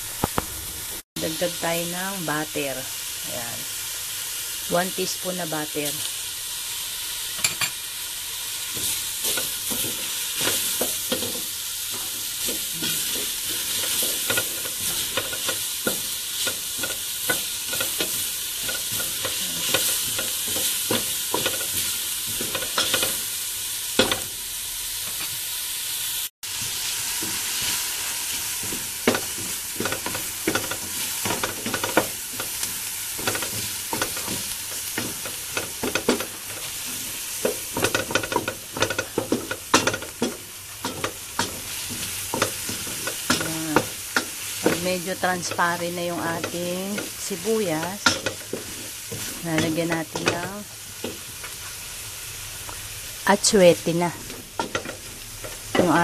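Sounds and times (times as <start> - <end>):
garlic and onion sizzling in oil: 0.0 - 56.0.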